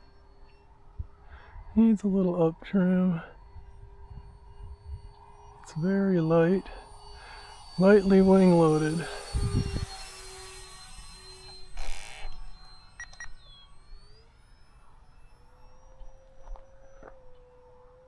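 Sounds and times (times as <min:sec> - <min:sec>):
high-pitched electric fan whine: 0:00.0 - 0:18.0
low steady tone: 0:00.0 - 0:18.0.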